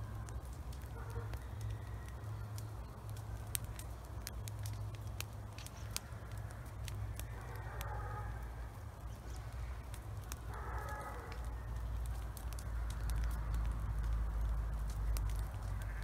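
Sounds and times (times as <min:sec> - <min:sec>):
burn pile crackling: 0:00.0 - 0:16.0
low steady rumble: 0:00.0 - 0:16.0.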